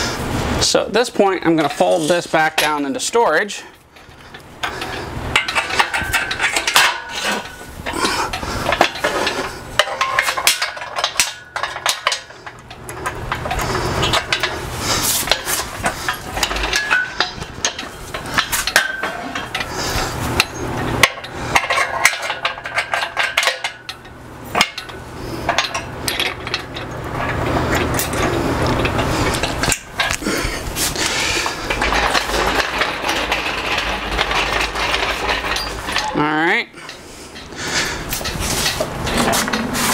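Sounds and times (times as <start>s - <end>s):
metal clanks and rattles: 0.5s - 39.9s.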